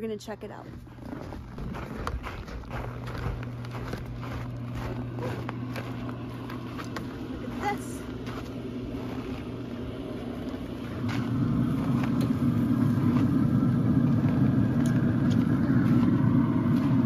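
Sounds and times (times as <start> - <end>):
pellet smoker low rumble: 0.0 - 17.0.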